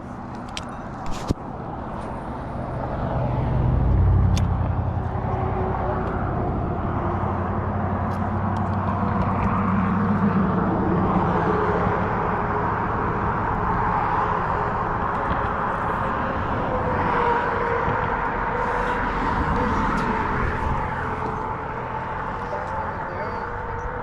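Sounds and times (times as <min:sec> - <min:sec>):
engine running: 0:00.0 - 0:24.0
rushing background noise: 0:00.0 - 0:24.0.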